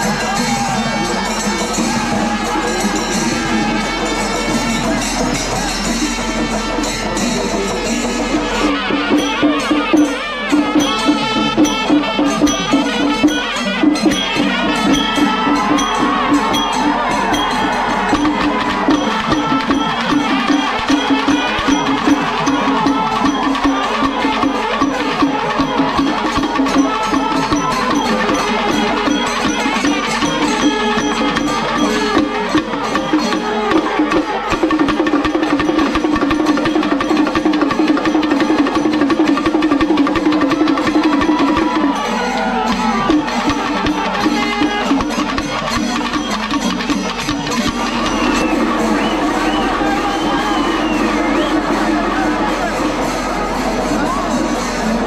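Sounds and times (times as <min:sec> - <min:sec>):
rapid drum strokes: 0:00.0 - 0:55.0.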